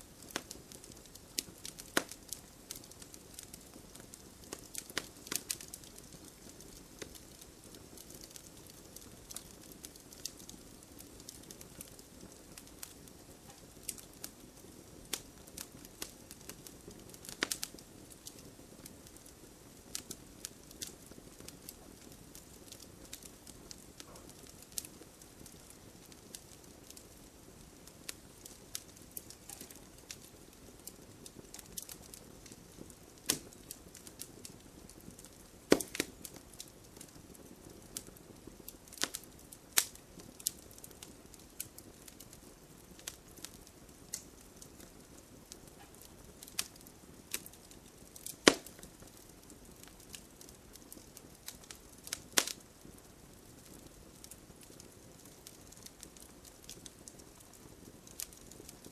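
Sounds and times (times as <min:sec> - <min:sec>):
fire hissing: 0:00.0 - 0:58.7
wood fire crackling: 0:00.0 - 0:58.9.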